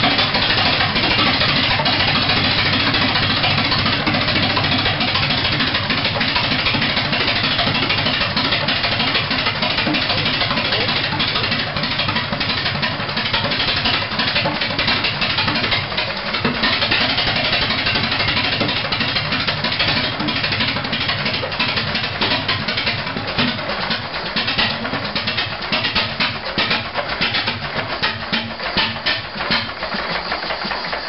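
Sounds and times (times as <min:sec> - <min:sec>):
stationary engine idling: 0:00.0 - 0:31.0.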